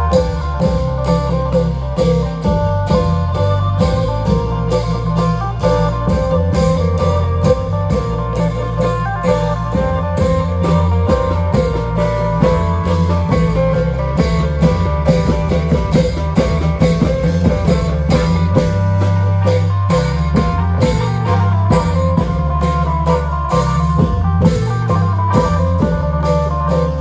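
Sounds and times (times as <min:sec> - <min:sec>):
deep held bass notes: 0:00.0 - 0:27.0
plucked-string melody: 0:00.0 - 0:27.0
rapid drumming: 0:00.0 - 0:27.0.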